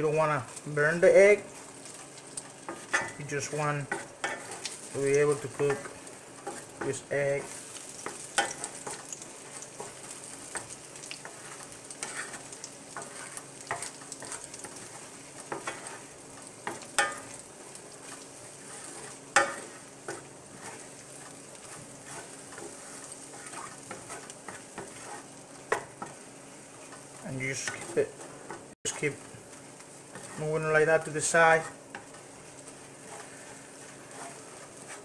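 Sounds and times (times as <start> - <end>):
eggs sizzling in oil: 0.0 - 35.0
wooden spatula scraping pan: 0.1 - 35.0.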